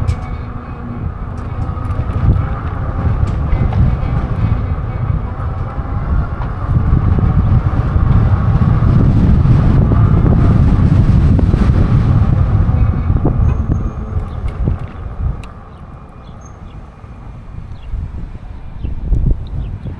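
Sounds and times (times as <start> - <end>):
road and traffic noise: 0.0 - 19.9
wind rumbling over microphone: 0.0 - 19.9.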